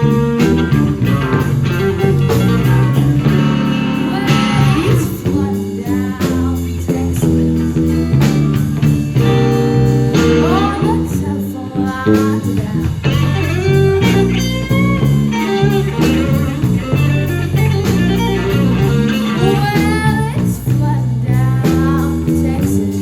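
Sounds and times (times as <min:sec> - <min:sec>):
electric guitar bending notes: 0:00.0 - 0:22.9
blues band playing: 0:00.0 - 0:23.0.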